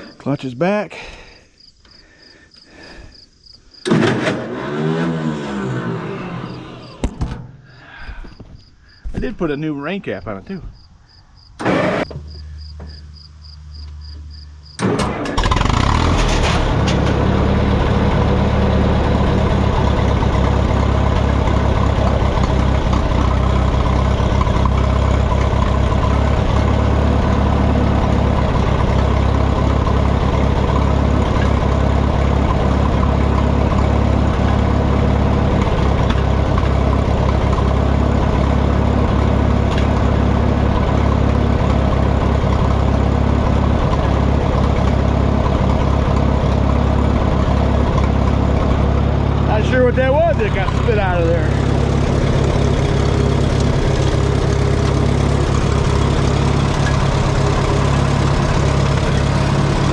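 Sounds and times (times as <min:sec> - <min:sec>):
tractor engine running: 0:03.8 - 0:10.9, 0:11.5 - 0:59.9.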